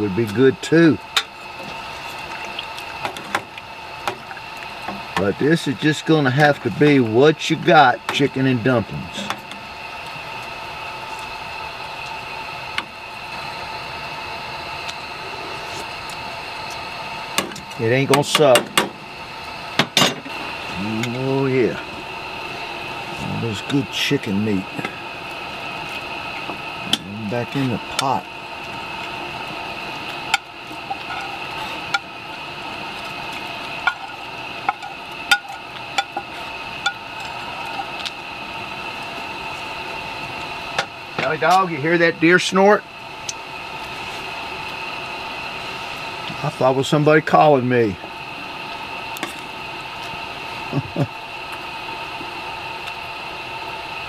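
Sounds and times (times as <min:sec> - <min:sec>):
camp stove burner hissing: 0:00.0 - 0:54.0.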